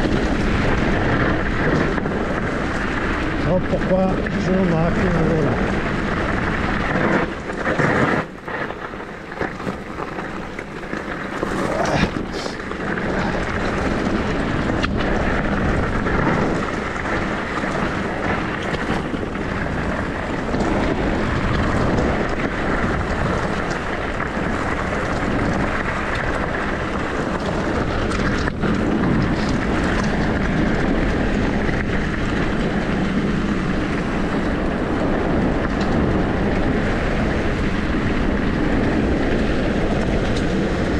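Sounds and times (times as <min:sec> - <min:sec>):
e-bike riding rumble: 0:00.0 - 0:40.9
wind buffeting microphone: 0:00.0 - 0:40.9.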